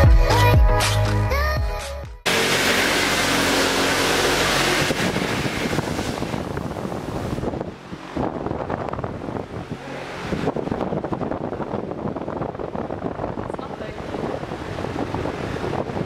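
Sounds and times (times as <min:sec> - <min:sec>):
fan wind noise on microphone: 0:02.3 - 0:16.0.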